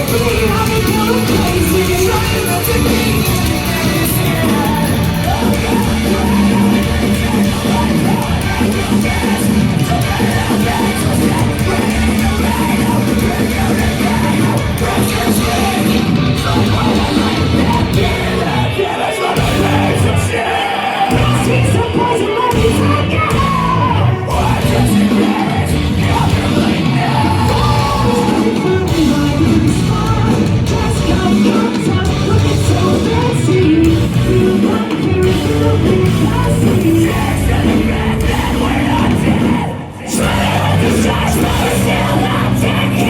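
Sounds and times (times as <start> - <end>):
heavy rock band playing: 0.0 - 43.0
person singing: 0.0 - 43.0
yelled vocals: 0.0 - 43.0.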